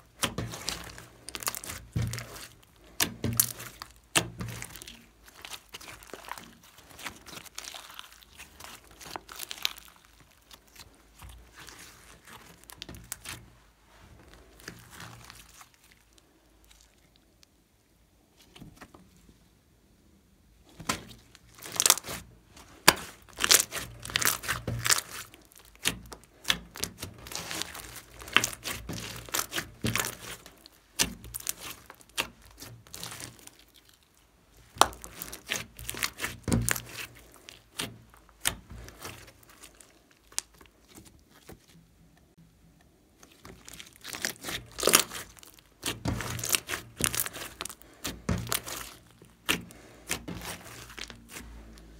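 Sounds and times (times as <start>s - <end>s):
slime crackling and popping: 0.0s - 13.7s, 14.3s - 17.6s, 20.8s - 42.4s, 43.1s - 51.9s.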